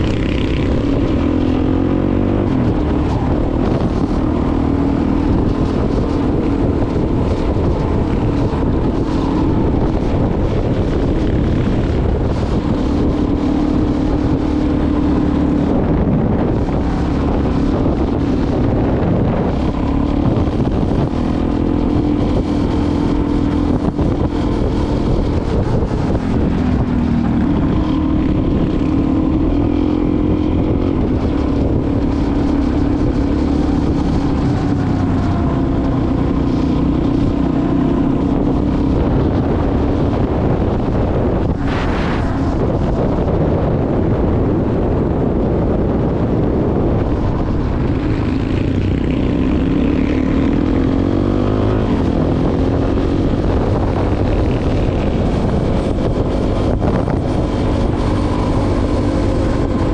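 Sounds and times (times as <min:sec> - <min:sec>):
motorcycle engine revving: 0:00.0 - 0:59.9
wind on microphone: 0:00.0 - 0:59.9.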